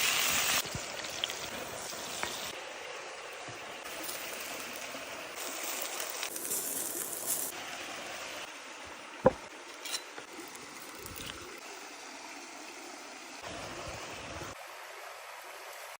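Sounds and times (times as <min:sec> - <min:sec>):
chicken sizzling in hot oil: 0:00.0 - 0:15.9.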